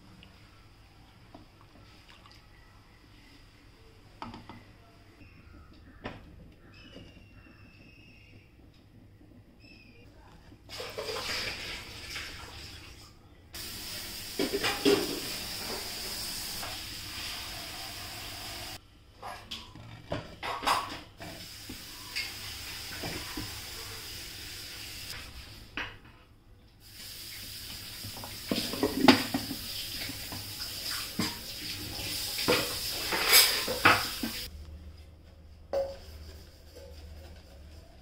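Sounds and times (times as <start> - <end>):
rice boiling in clay pot: 0.0 - 12.5, 13.5 - 18.8, 19.5 - 25.8, 26.8 - 38.0.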